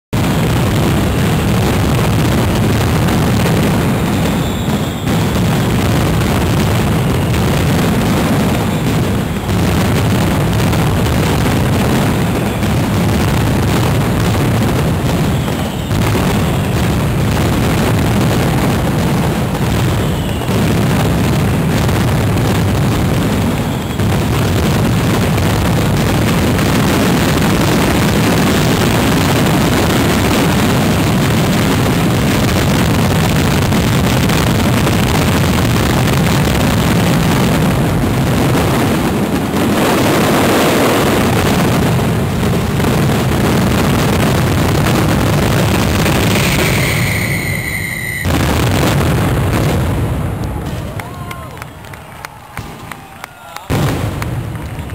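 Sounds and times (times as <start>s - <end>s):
fireworks bangs and crackle: 0.1s - 54.9s.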